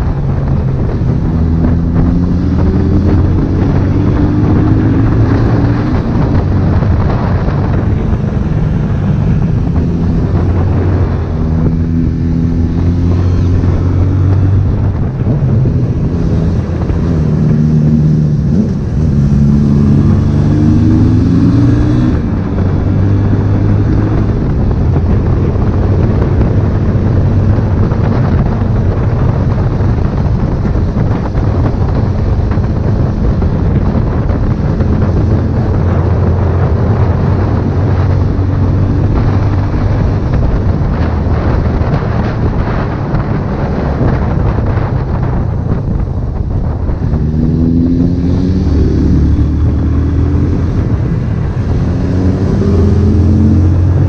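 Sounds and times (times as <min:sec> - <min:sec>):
motorcycle engine accelerating: 0:00.0 - 0:54.0
wind on microphone: 0:00.0 - 0:54.0.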